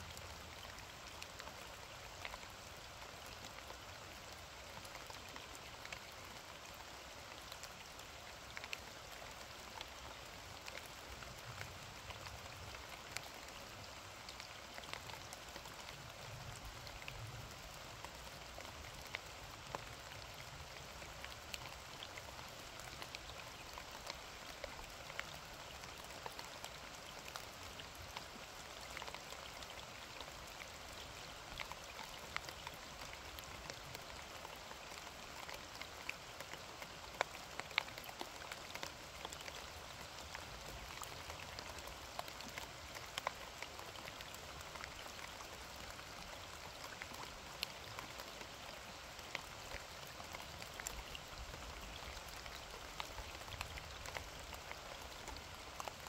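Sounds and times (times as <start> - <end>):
raindrops ticking close by: 0.0 - 56.0
steady rain: 0.0 - 56.0.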